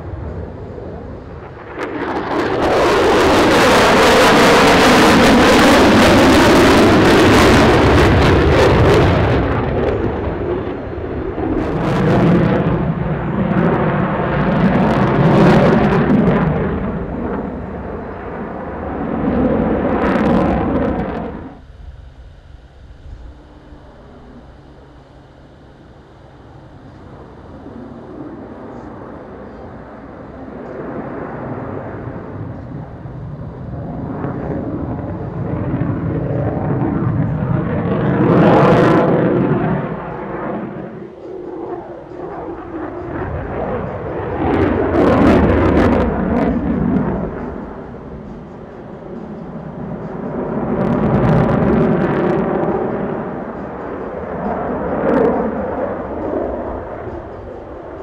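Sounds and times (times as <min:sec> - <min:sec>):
jet engines roaring overhead: 0:00.0 - 0:58.0
sharp jet engine crackle: 0:00.0 - 0:58.0.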